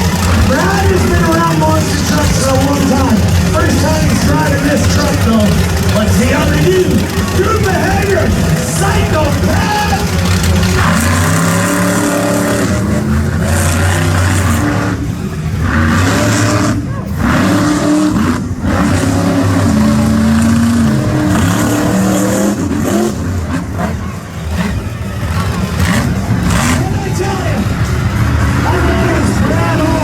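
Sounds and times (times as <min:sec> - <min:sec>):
truck engines revving hard: 0:00.0 - 0:30.0.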